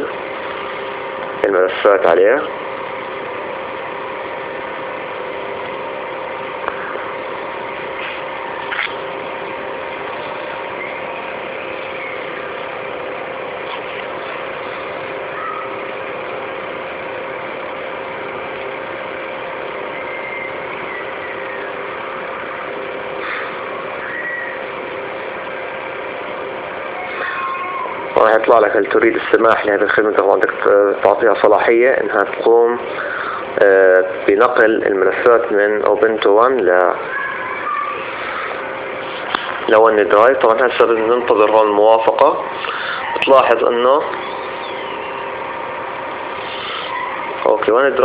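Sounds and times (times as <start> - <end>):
background hiss and hum: 0.0 - 48.0.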